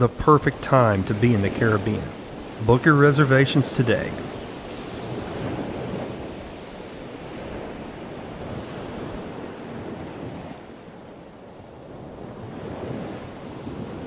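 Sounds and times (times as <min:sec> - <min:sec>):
ocean surf washing in: 0:00.0 - 0:14.0.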